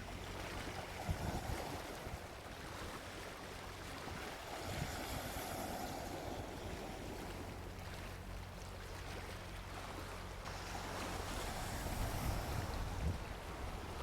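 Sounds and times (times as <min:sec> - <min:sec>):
ocean waves washing onto beach: 0:00.0 - 0:14.0.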